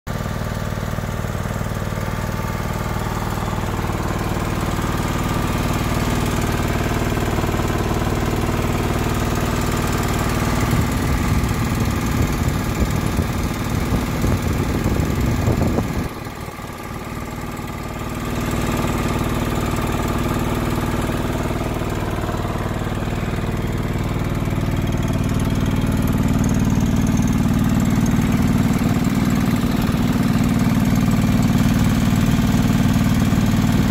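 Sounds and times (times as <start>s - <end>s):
lawn tractor engine running: 0.1s - 33.9s.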